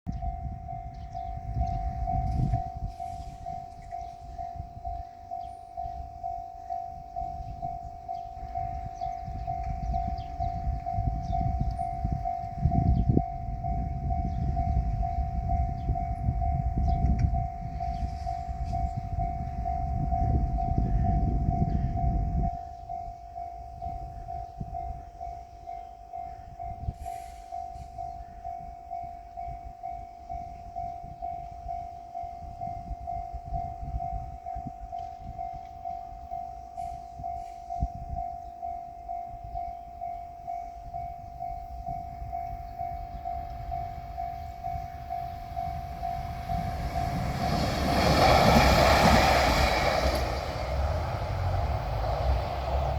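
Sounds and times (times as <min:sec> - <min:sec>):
diesel railcar passing: 0:00.1 - 0:52.9.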